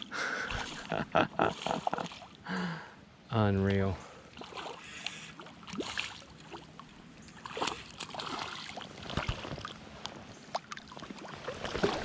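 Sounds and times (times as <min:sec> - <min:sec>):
creek water splashing: 0:00.0 - 0:02.6, 0:04.0 - 0:12.0.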